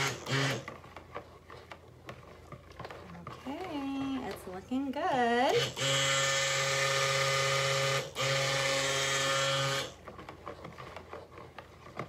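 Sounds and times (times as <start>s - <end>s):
stick blender motor hum: 0.0s - 12.0s.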